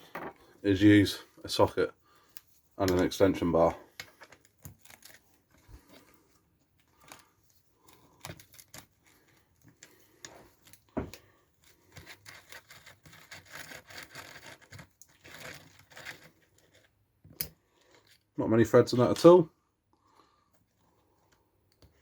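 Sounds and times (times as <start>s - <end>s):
small metallic scrapes: 0.0s - 18.3s.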